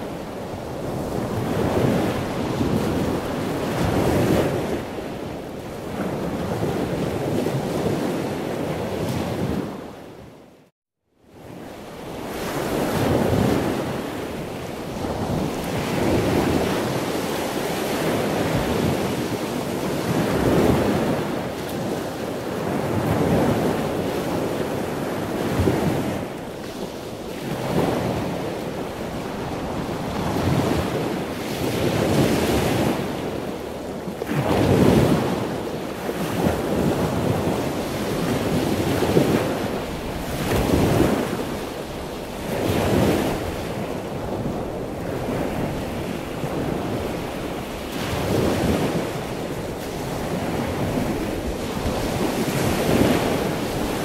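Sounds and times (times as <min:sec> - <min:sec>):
ocean waves: 0:00.0 - 0:10.3, 0:11.3 - 0:54.0.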